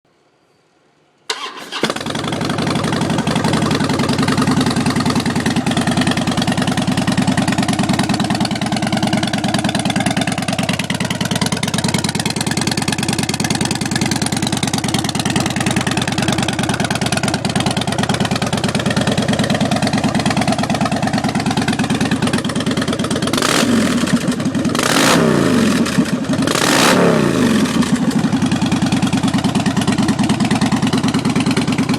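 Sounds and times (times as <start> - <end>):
motorcycle engine idling and revving: 1.3 - 31.9.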